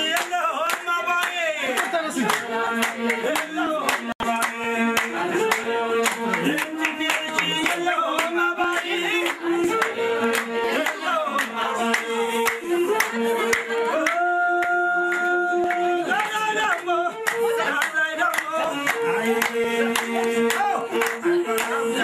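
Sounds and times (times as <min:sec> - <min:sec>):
group singing: 0:00.0 - 0:22.0
rhythmic handclapping: 0:00.0 - 0:22.0.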